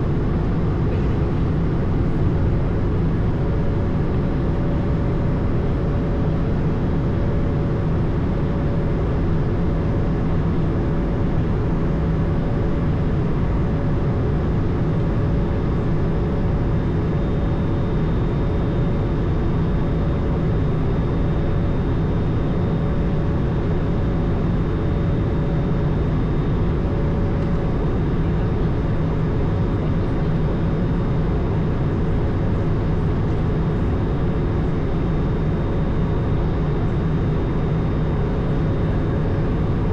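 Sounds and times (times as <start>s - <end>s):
faint steady whining tones: 0.0s - 39.9s
jet engine rumble: 0.0s - 39.9s.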